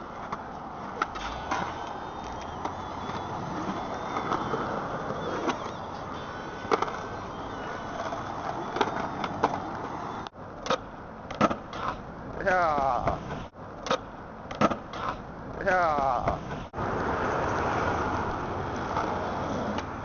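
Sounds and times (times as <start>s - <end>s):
skateboard clacks: 0.0s - 16.6s
skateboard wheels rolling on concrete: 0.0s - 20.0s.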